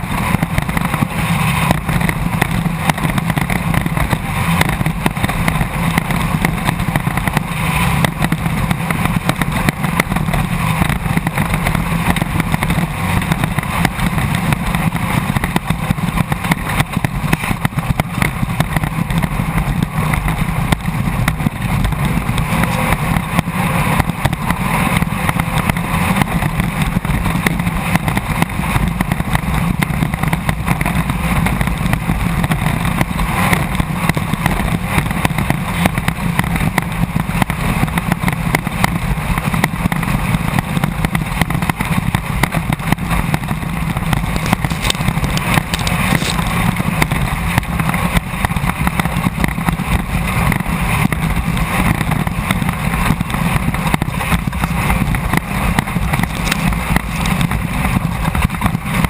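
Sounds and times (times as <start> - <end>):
car body rattling: 0.0 - 59.0
race car engine running hard: 0.0 - 59.0.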